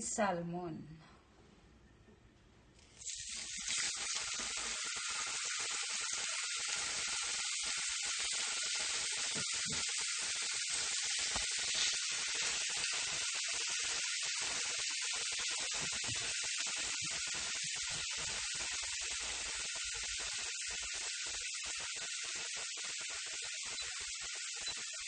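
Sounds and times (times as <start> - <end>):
fish sizzling in a frying pan: 2.9 - 25.0.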